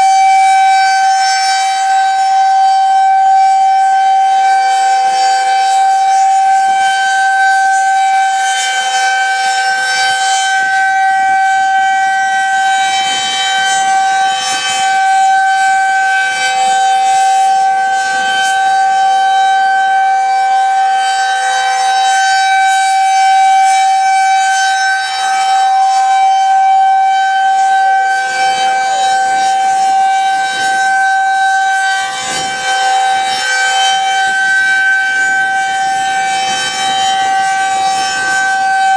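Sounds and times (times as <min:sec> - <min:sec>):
steady warning siren tone: 0:00.0 - 0:38.9.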